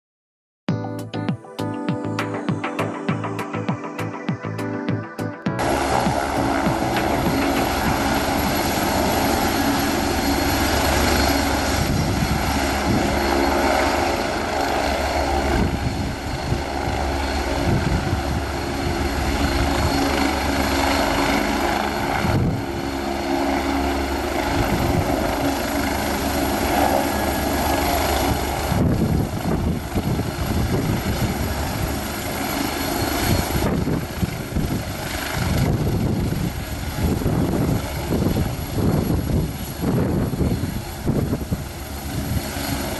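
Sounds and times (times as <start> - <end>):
helicopter turbine whine: 2.1 - 42.9
helicopter rotor noise: 2.2 - 42.9.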